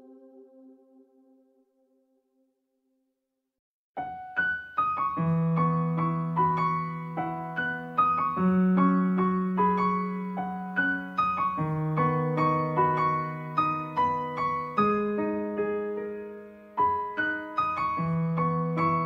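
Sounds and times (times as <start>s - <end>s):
gentle piano music: 0.0s - 1.7s, 4.0s - 19.0s.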